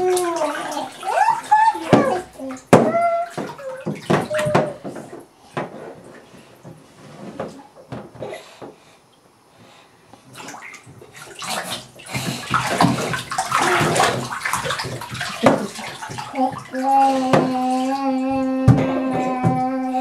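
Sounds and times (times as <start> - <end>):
bathwater splashing: 0.0 - 8.1, 10.2 - 20.0.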